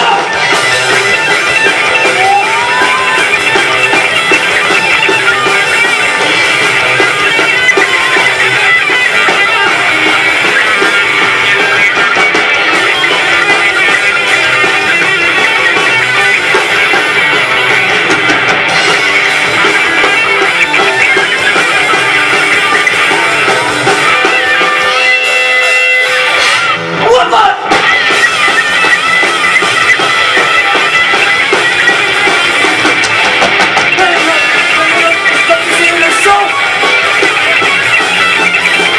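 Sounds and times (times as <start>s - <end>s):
drums: 0.0s - 38.9s
guitars: 0.0s - 38.9s
live rock band playing: 0.0s - 38.9s.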